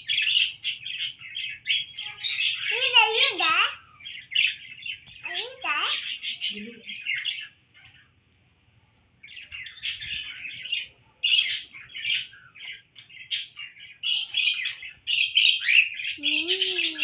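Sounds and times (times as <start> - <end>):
parrots chirping and chattering: 0.0 - 17.0.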